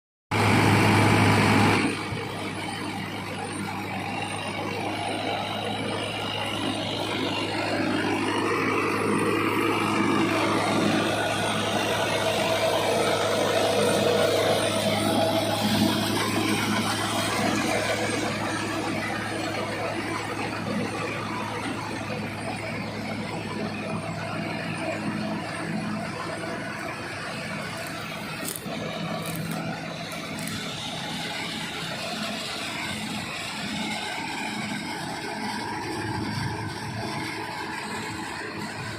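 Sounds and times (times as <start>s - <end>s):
straw reaper machine noise: 0.3s - 38.9s
tractor diesel engine drone: 0.3s - 38.9s.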